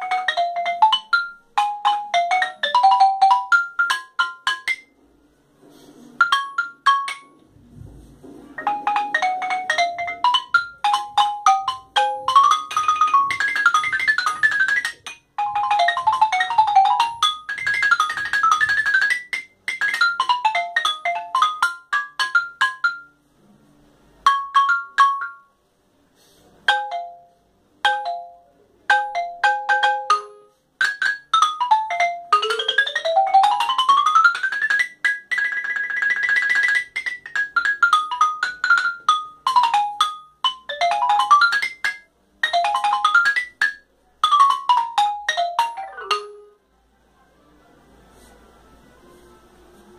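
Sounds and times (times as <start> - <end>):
marimba played solo: 0.0 - 4.9, 6.2 - 7.4, 8.6 - 23.1, 24.2 - 25.5, 26.7 - 46.6.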